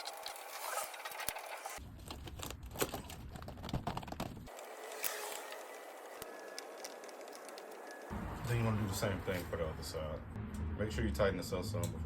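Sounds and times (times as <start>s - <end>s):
exhaust hose crinkling and scraping: 0.0s - 9.7s.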